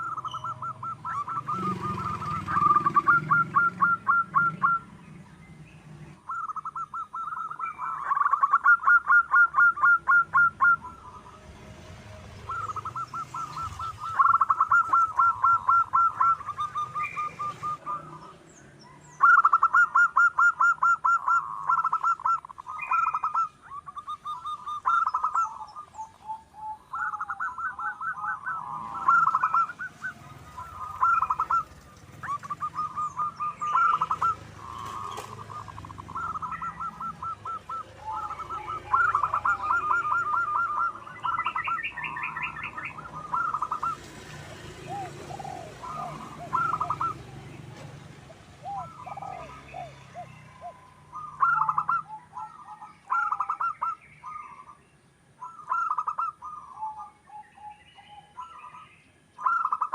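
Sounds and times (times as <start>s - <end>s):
dove cooing: 0.0s - 54.8s, 55.4s - 59.9s
small birds chirping: 0.0s - 59.9s.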